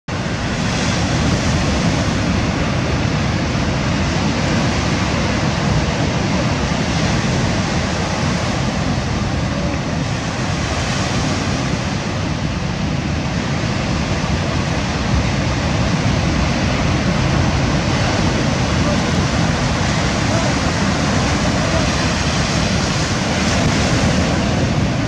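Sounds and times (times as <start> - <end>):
surf washing over pebbles: 0.1 - 25.0
wind buffeting microphone: 0.1 - 25.0.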